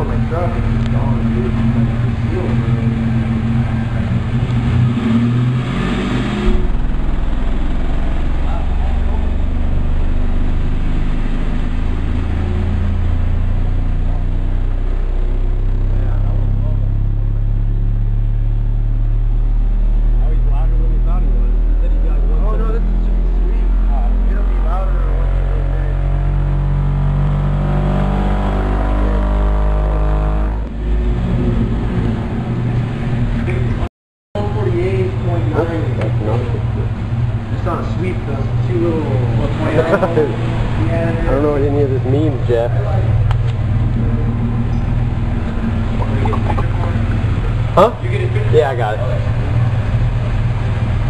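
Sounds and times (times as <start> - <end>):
loud deep subwoofer bass: 0.0 - 51.0.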